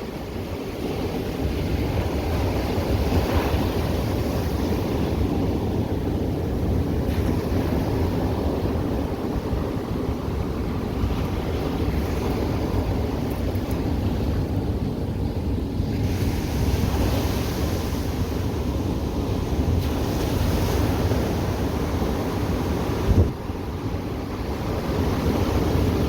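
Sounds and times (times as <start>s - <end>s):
ocean surf washing ashore: 0.0s - 26.0s
wind rumbling on microphone: 0.0s - 26.0s.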